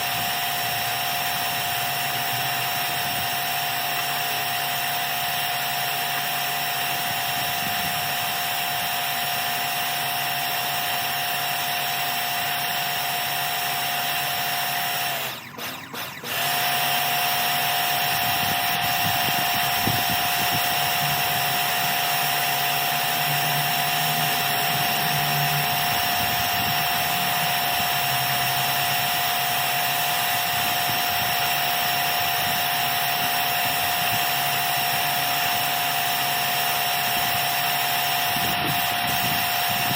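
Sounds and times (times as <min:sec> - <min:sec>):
pressure washer whine: 0:00.0 - 0:39.9.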